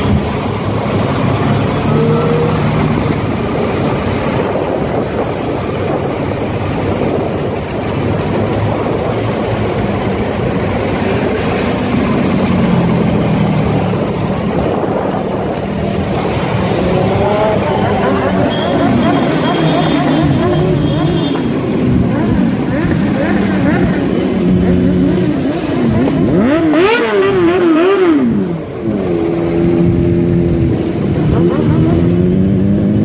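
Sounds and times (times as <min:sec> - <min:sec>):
motorcycle engine running: 0:00.0 - 0:33.0
other motorcycles: 0:00.0 - 0:33.0
wind and road noise: 0:00.0 - 0:33.0.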